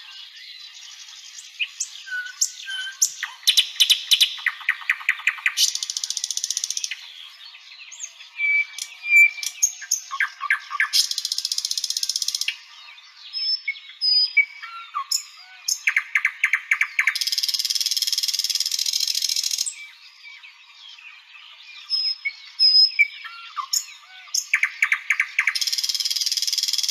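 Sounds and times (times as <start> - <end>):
nightingale singing: 0.0 - 26.9.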